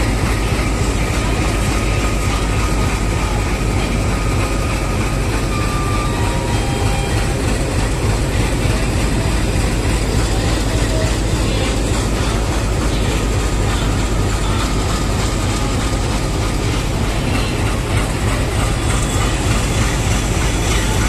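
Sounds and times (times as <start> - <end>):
locomotive engine idling: 0.0 - 21.0.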